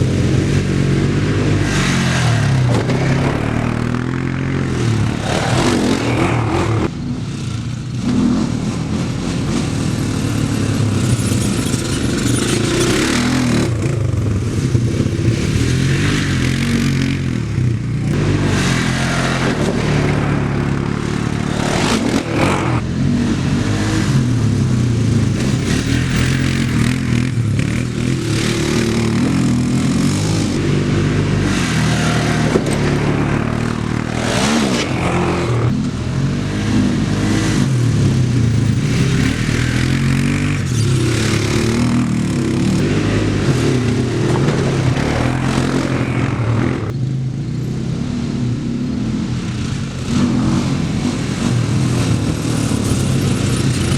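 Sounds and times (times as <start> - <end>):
quad engine revving: 0.0 - 46.9, 47.9 - 53.9.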